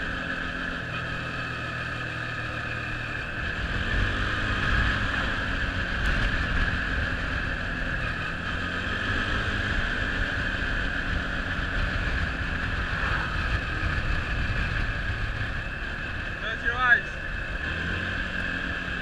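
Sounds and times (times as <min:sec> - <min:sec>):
quad bike engine running: 0:00.0 - 0:19.0.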